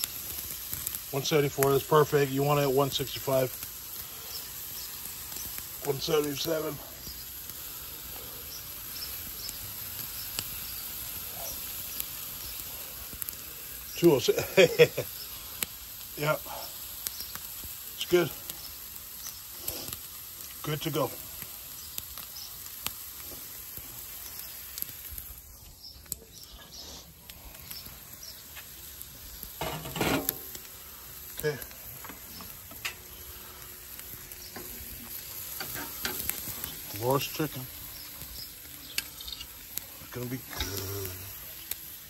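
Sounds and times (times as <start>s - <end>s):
chicken sizzling on grill: 0.0s - 42.0s.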